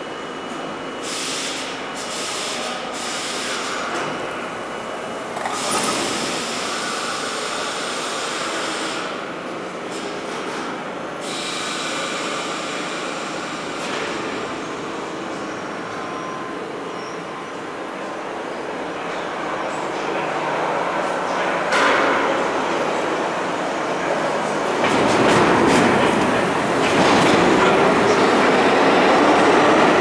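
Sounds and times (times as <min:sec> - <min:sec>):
subway car equipment running: 0:00.0 - 0:30.0.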